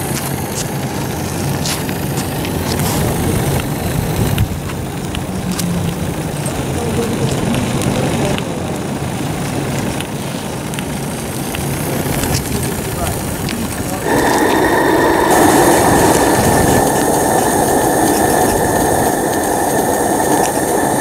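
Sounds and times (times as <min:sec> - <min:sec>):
steam model truck running: 0:00.0 - 0:21.0.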